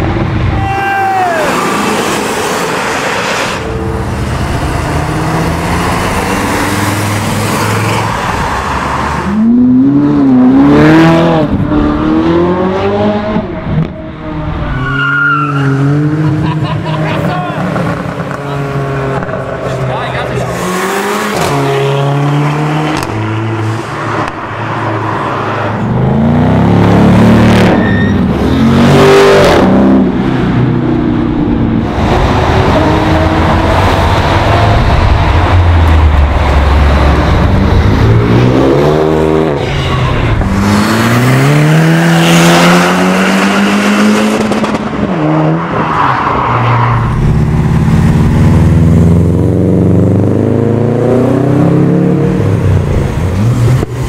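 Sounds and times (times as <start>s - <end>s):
cars accelerating hard past: 1.3s - 14.7s, 15.4s - 54.0s.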